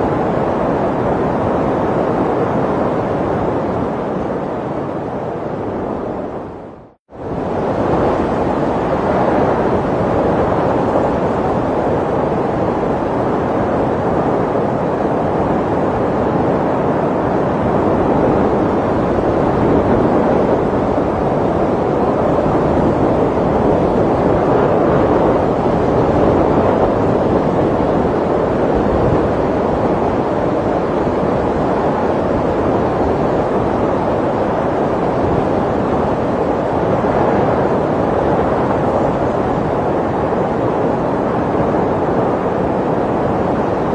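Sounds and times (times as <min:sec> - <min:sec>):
snowstorm wind rushing: 0:00.0 - 0:43.9.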